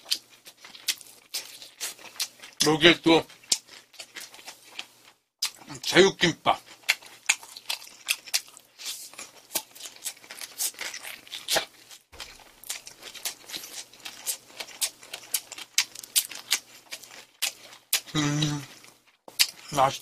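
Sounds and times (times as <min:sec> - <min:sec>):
chewing with wet mouth smacks: 0:00.0 - 0:05.9, 0:06.5 - 0:20.0.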